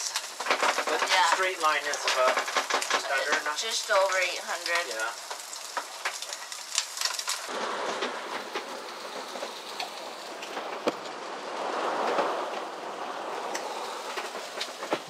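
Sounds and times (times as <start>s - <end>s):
frying pan sizzle: 0.0s - 15.0s.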